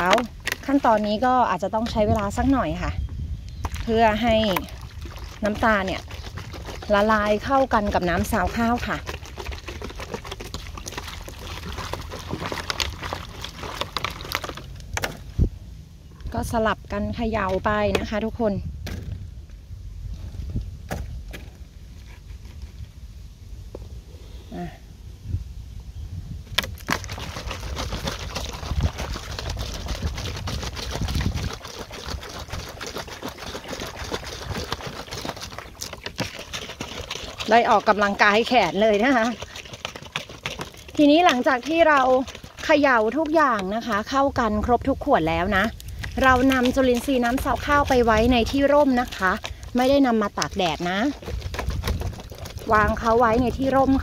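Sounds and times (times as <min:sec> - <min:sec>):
liquid sloshing in plastic bottles: 0:00.0 - 0:15.5, 0:16.2 - 0:19.2, 0:26.5 - 0:54.0.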